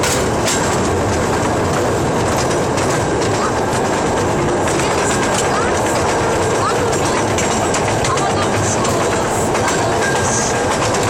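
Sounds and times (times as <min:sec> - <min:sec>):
train rumbling on rails: 0:00.0 - 0:11.0
wheel clicks: 0:00.0 - 0:11.0.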